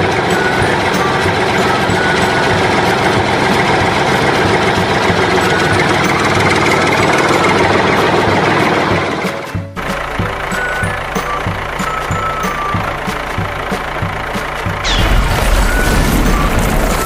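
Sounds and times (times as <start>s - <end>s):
construction machine engine running: 0.0s - 17.0s.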